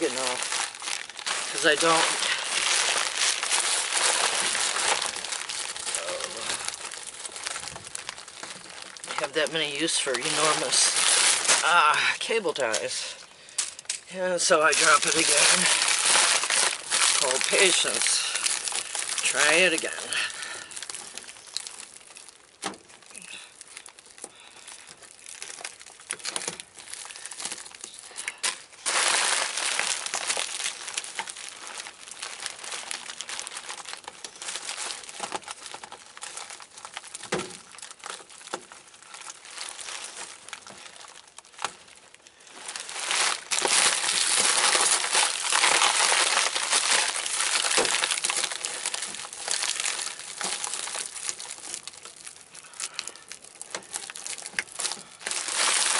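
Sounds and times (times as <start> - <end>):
plastic bag and foil duct crinkling: 0.0 - 55.9.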